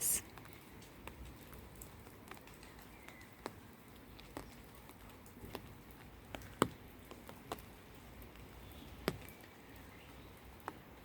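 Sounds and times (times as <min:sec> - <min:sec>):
raindrops tapping: 0:00.0 - 0:11.0.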